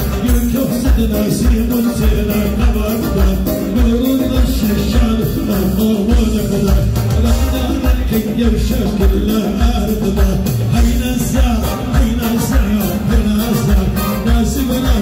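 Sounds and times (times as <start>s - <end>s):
live dance band with keyboard: 0.0s - 15.0s
person singing: 0.0s - 15.0s.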